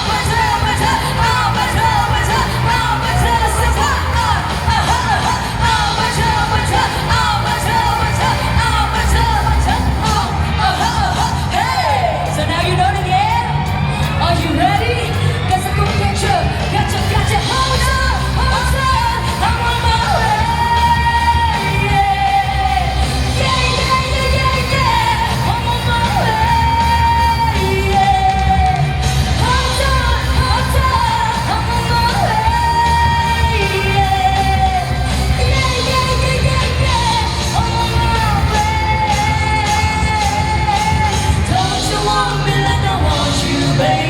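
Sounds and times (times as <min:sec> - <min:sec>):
heavy bass: 0:00.0 - 0:44.0
live pop band through loudspeakers: 0:00.0 - 0:44.0.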